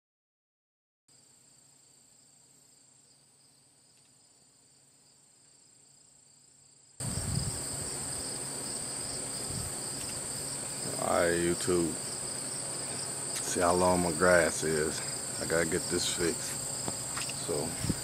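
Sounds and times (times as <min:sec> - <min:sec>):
insects chirring: 0:01.1 - 0:18.0.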